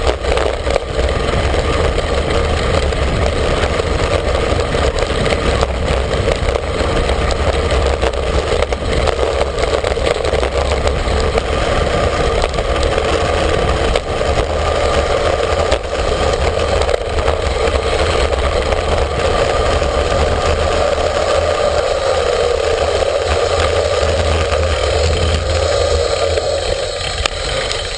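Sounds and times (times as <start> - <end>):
road noise hiss: 0.0 - 27.9
wind buffeting microphone: 0.0 - 27.9.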